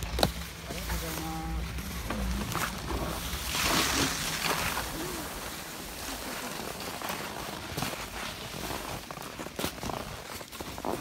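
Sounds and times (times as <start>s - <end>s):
skis scraping over snow: 0.2s - 11.0s.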